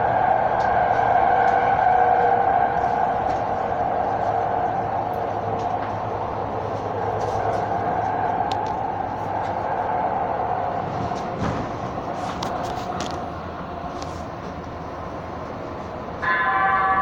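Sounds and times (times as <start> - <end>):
train whine: 0.0 - 17.0
wheel and rail rumbling: 0.0 - 17.0.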